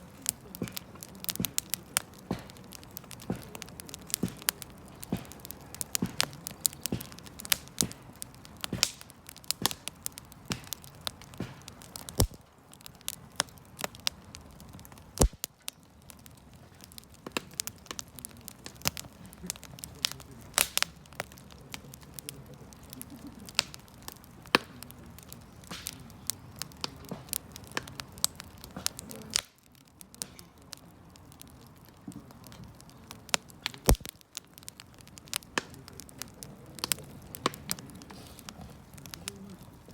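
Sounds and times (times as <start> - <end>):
hiss of flames: 0.0 - 15.5, 16.2 - 39.9
campfire crackling and popping: 0.0 - 39.9.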